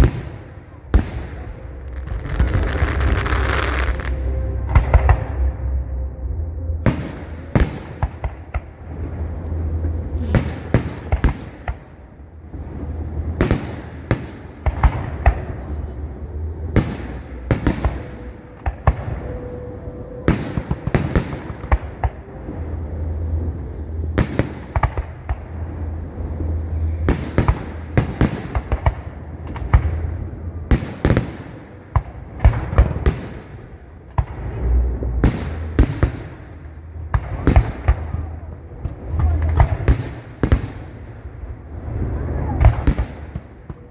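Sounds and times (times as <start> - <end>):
fireworks bursting and crackling: 0.0 - 5.5, 6.8 - 43.9
low rumble: 0.0 - 43.9.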